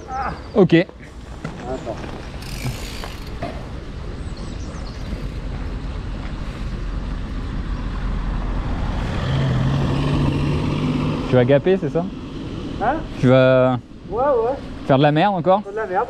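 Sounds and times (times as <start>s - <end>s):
vehicle engine approaching: 1.7s - 15.0s.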